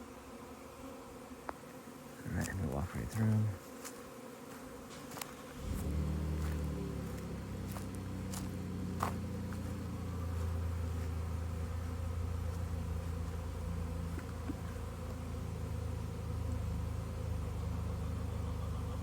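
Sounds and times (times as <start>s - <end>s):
bee swarm buzzing: 0.0s - 19.0s.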